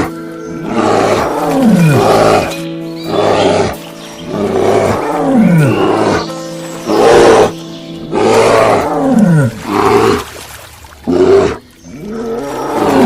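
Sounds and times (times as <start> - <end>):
background music: 0.0 - 13.0
big cat roaring: 0.6 - 6.3, 6.9 - 10.3, 11.0 - 13.0.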